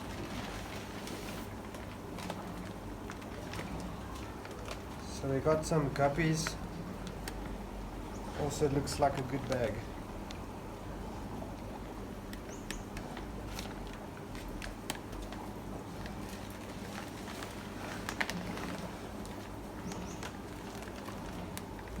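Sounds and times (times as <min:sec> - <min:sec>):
plastic bags clicking and tapping: 0:00.0 - 0:07.7, 0:08.4 - 0:10.5, 0:12.0 - 0:22.0.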